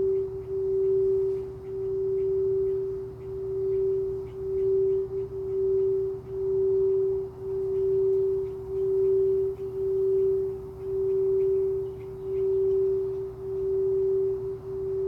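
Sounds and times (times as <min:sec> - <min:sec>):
singing bowl tone: 0:00.0 - 0:15.0.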